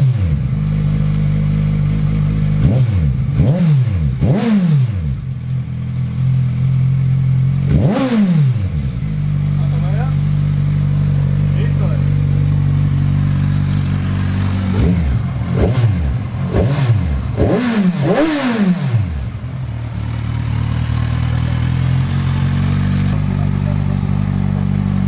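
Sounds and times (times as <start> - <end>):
motorcycle engine revving and idling: 0.0 - 25.0.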